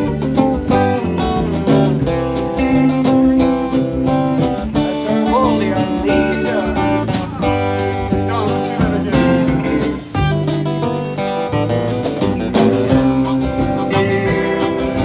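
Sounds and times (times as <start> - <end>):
bass and drums: 0.0 - 15.0
lead guitar bending notes: 0.0 - 15.0
strummed acoustic guitar: 0.0 - 15.0.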